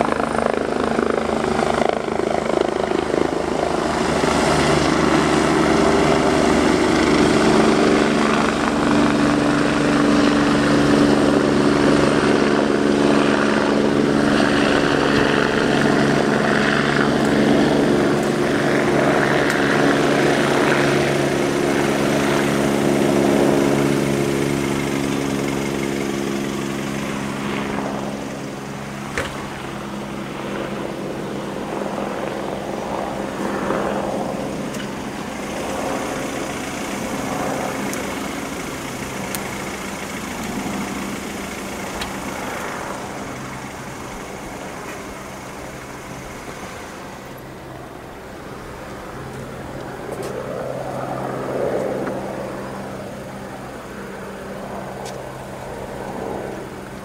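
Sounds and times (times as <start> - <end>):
helicopter rotor and turbine drone: 0.0 - 57.0
passing road traffic: 0.0 - 57.0.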